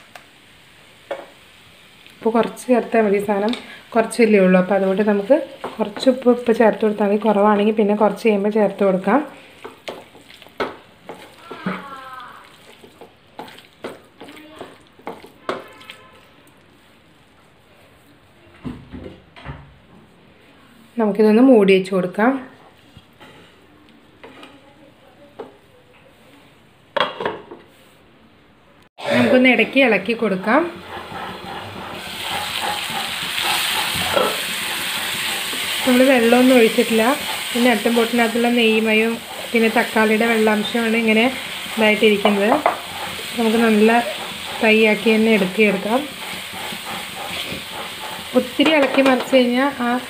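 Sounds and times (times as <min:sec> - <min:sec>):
wooden spatula stirring in a pan: 0:00.1 - 0:18.2, 0:22.5 - 0:26.5, 0:29.0 - 0:50.0.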